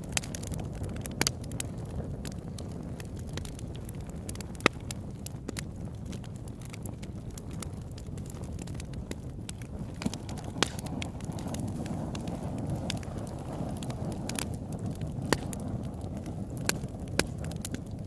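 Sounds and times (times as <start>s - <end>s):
burning wood crackling and popping: 0.0s - 18.0s
low rumble of flames: 0.0s - 18.0s.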